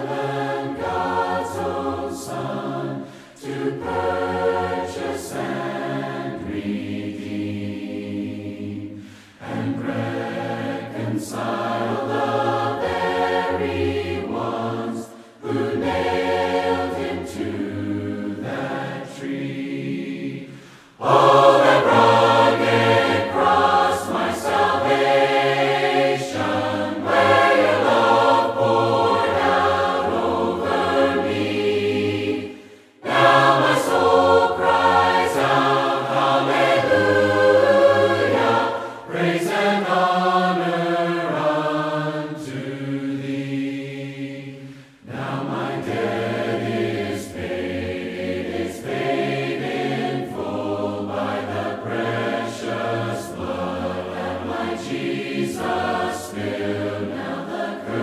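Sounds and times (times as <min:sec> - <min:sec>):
choir singing a hymn a cappella: 0:00.0 - 0:58.0.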